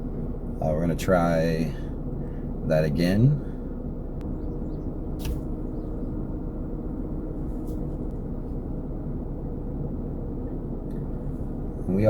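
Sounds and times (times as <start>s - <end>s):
faint hum: 0.0s - 12.0s
low rumble inside car: 0.0s - 12.0s.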